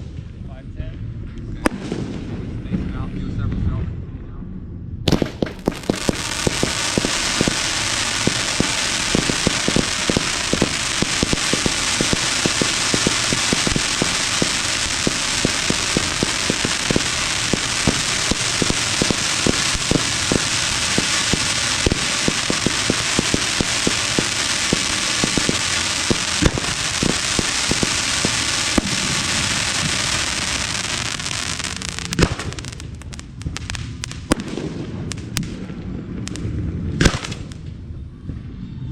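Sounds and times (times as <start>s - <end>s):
fireworks crackling and banging: 1.6s - 3.3s, 5.1s - 37.9s.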